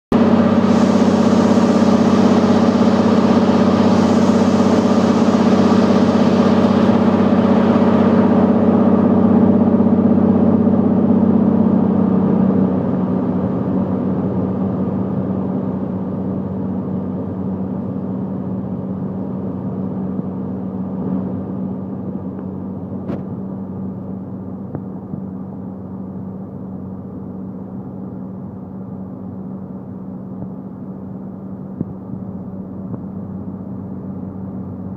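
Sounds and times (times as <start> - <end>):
propeller plane engine drone: 0.1 - 34.9.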